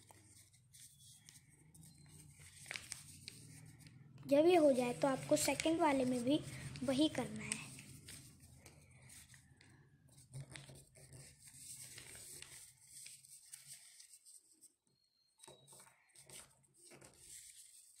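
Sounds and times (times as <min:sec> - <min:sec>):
paper rustling and crinkling: 0:00.0 - 0:03.9, 0:04.6 - 0:09.4, 0:10.2 - 0:14.6, 0:15.7 - 0:18.0.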